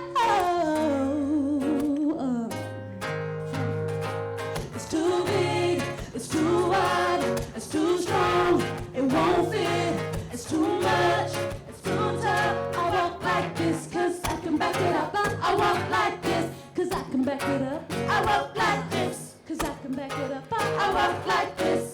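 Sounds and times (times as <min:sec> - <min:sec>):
vocal group singing: 0:00.0 - 0:02.7, 0:04.5 - 0:21.9
guitar accompaniment: 0:00.0 - 0:21.9.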